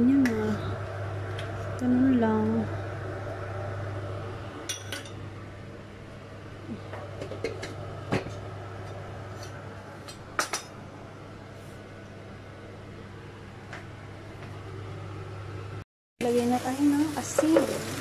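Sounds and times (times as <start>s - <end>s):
low hum: 0.0s - 15.8s.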